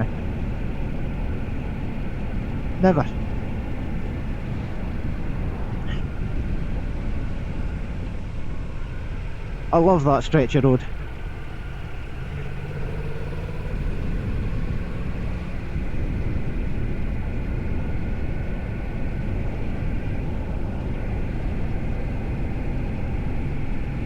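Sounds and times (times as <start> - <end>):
faint motorcycle engine hum: 0.0 - 24.0
wind rush on microphone: 0.0 - 24.0.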